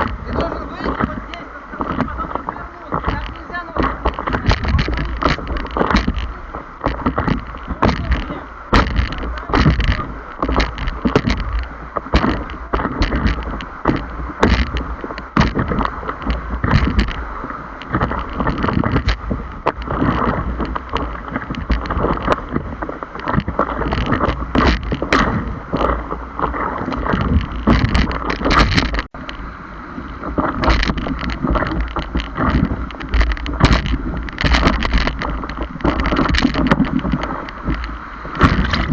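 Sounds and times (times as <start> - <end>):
knocks on paddleboard: 0.0 - 29.2, 30.2 - 38.9
heavy low rumble: 0.0 - 38.9
paddle splashing water: 0.0 - 38.9.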